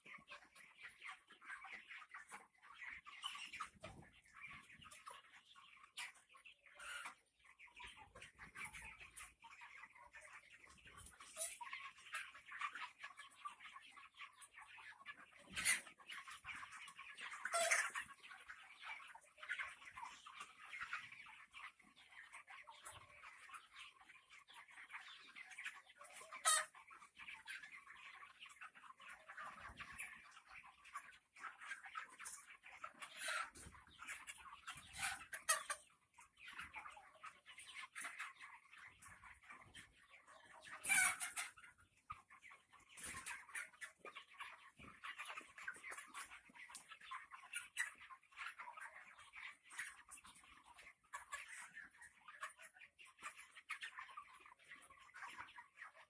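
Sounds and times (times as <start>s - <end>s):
chickens chirping and clucking: 0.0s - 56.0s.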